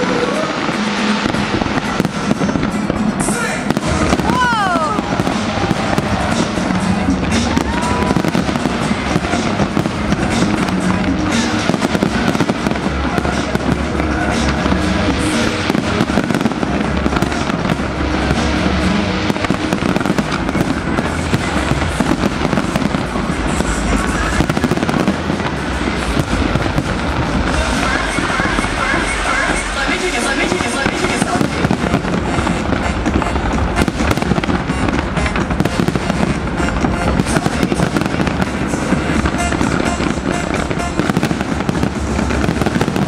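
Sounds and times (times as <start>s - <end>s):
fireworks bangs and crackling: 0.0s - 43.0s
music playing: 0.0s - 43.0s.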